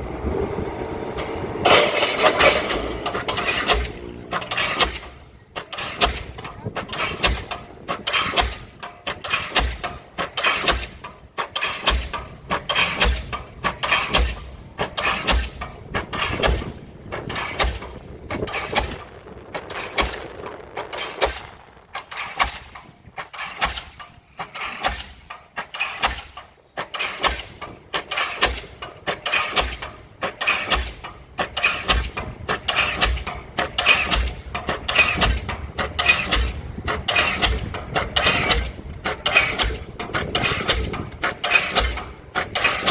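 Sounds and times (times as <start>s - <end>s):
pile hammer heavy strikes: 1.6s - 20.3s, 20.9s - 42.9s.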